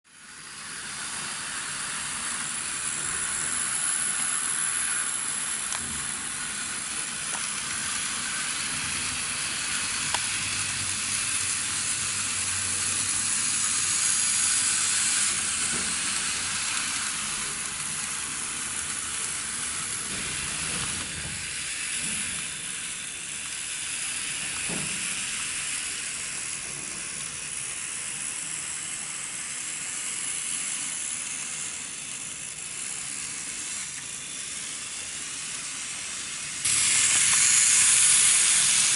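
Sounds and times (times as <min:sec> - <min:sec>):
model train whirring on rails: 0:00.0 - 0:38.9.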